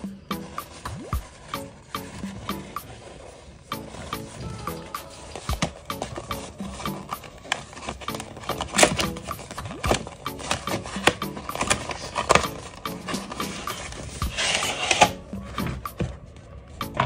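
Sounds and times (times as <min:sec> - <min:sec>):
faint background music: 0:00.0 - 0:17.0
cardboard sliding rustle: 0:00.6 - 0:16.5
cardboard packaging handled: 0:00.6 - 0:16.6.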